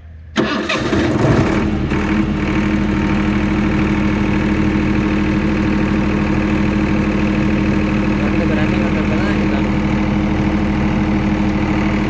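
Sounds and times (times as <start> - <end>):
diesel generator running: 0.0 - 12.0.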